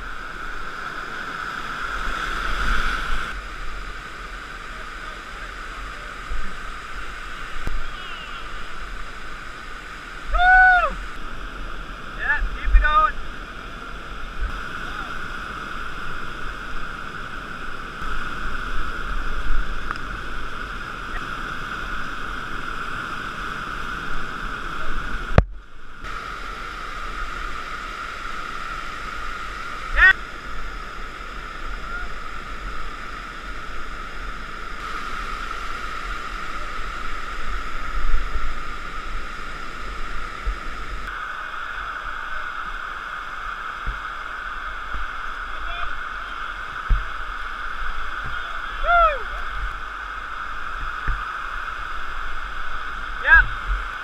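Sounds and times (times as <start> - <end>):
white water rushing over a weir: 0.0 - 54.0.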